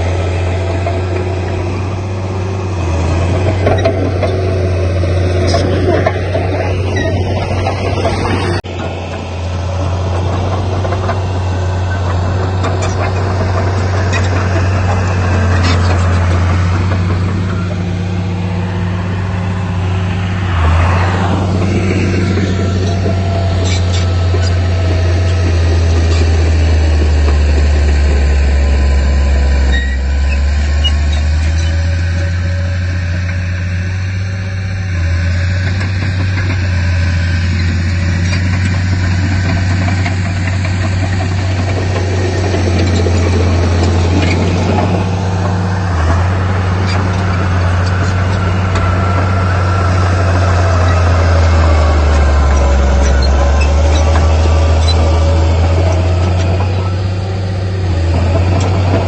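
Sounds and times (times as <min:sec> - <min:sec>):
heavy machine diesel engine running: 0:00.0 - 0:59.0.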